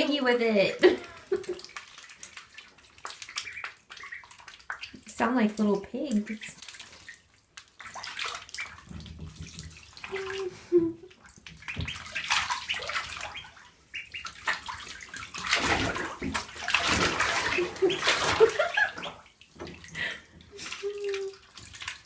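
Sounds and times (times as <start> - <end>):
ducklings splashing in water: 0.0 - 22.0.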